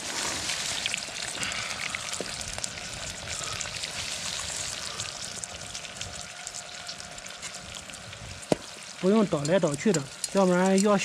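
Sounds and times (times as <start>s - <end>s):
oil sizzling with crackles: 0.0s - 11.0s.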